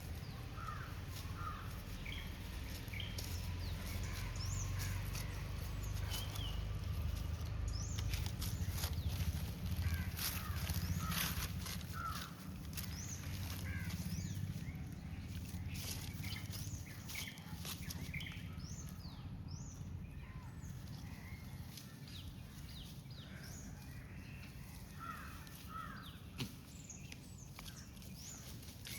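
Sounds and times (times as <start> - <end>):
birds chirping: 0.0 - 28.9
low steady rumble: 0.0 - 28.9.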